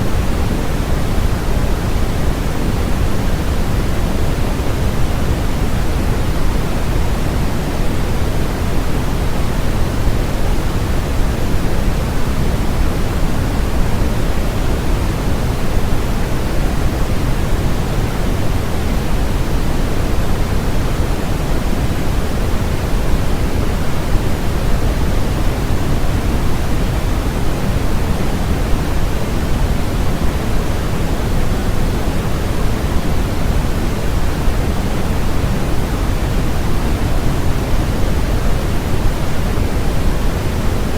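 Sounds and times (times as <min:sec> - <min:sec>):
deep steady noise rush: 0:00.0 - 0:40.9.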